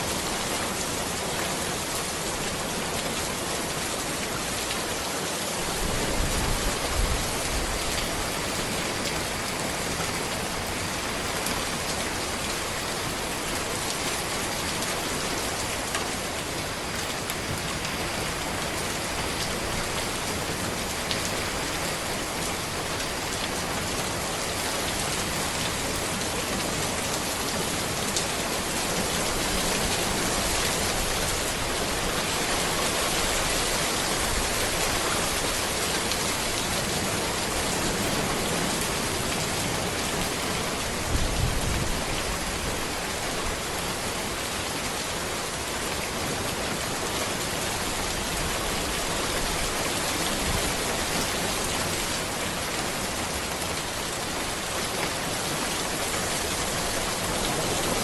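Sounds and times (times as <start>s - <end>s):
rain falling on a road: 0.0s - 58.0s.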